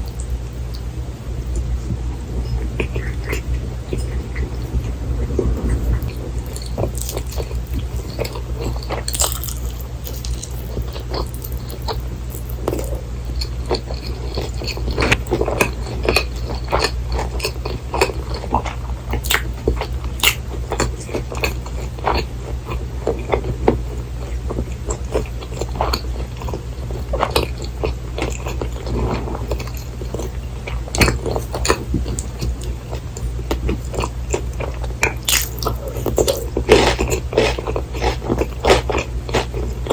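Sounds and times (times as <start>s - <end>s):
steady low hum: 0.0s - 39.9s
crisp food chewing: 2.4s - 39.9s.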